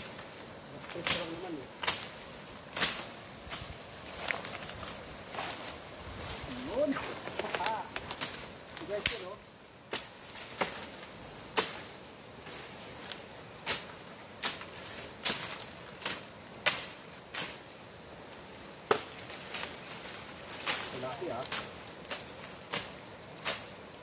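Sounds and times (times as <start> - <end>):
twigs and leaves snapping underfoot: 0.0 - 24.0.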